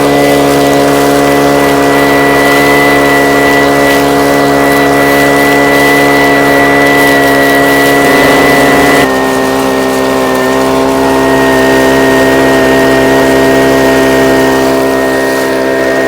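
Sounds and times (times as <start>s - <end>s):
prospecting vacuum engine whining: 0.0s - 16.0s.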